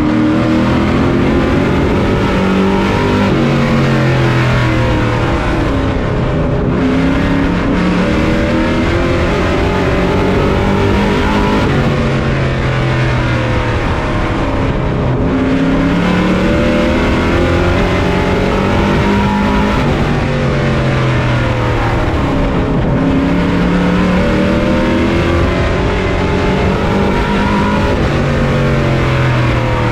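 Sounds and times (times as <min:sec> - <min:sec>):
race truck engine revving: 0:00.0 - 0:29.9
wind and road noise: 0:00.0 - 0:29.9.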